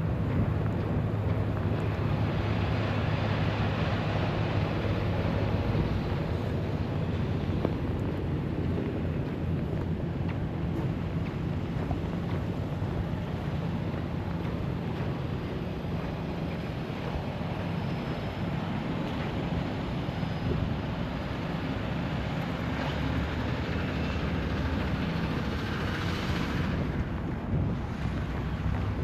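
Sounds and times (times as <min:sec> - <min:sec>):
vehicle rumble: 0:00.0 - 0:29.0
wind noise: 0:00.0 - 0:29.0.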